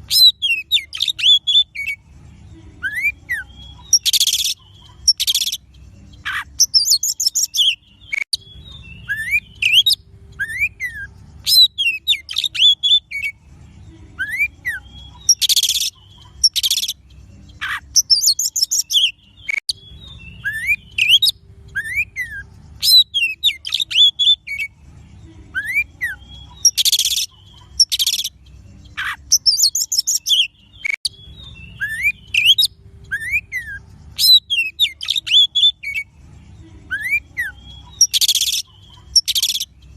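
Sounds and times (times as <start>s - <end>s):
bird song with whistled notes: 0.0s - 39.9s
harsh buzzy bird phrases: 0.0s - 39.9s.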